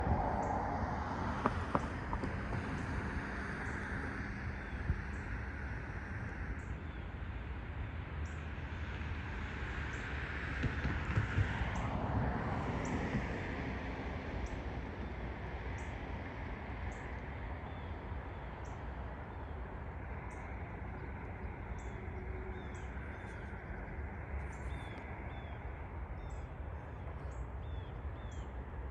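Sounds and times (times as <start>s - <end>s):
steady low rumble: 0.0s - 10.3s, 10.9s - 28.9s.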